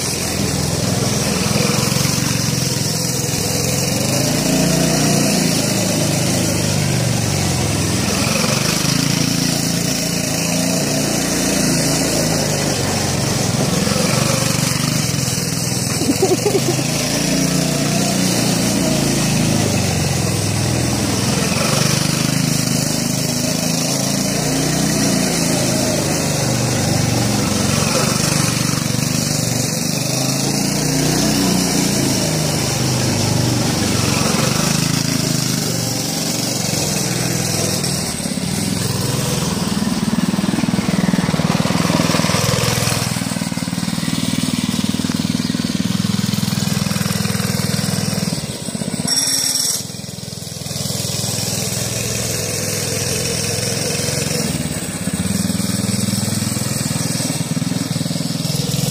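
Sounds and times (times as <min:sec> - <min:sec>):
small petrol engine running: 0:00.0 - 0:58.9.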